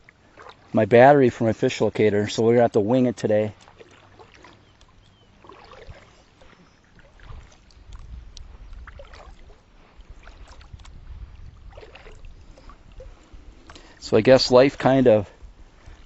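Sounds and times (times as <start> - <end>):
water sloshing: 0.0 - 16.0.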